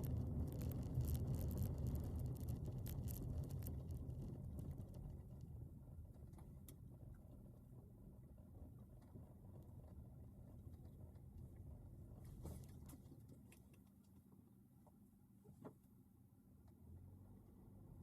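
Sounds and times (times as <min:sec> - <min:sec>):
faint low rumble: 0:00.0 - 0:18.0.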